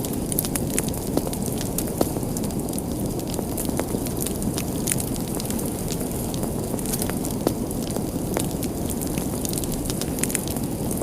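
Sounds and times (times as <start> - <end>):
fire crackles: 0.0 - 11.0
wood fire burning: 0.0 - 11.0.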